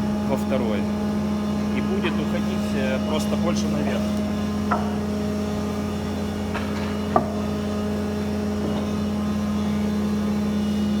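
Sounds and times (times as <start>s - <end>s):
thickness planer humming: 0.0s - 11.0s.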